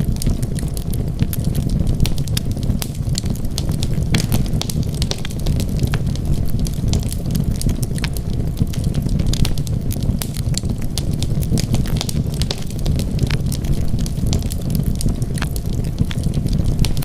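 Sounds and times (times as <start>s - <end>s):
fire popping and crackling: 0.0s - 17.0s
wood fire rumbling: 0.0s - 17.0s.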